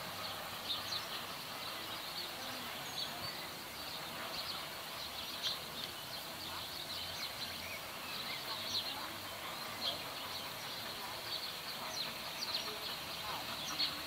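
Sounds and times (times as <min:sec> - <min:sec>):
outdoor background hiss: 0:00.0 - 0:14.0
small birds chirping: 0:00.0 - 0:14.0.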